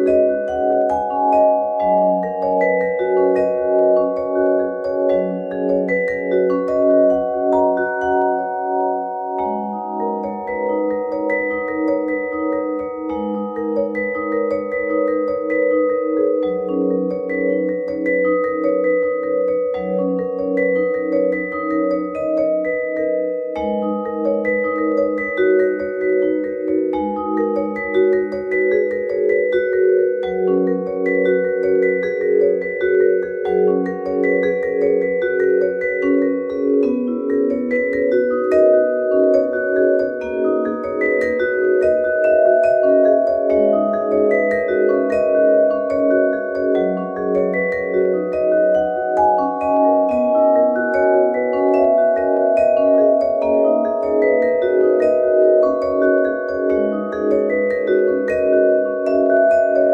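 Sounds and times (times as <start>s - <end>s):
vibraphone playing chords: 0.0s - 59.9s.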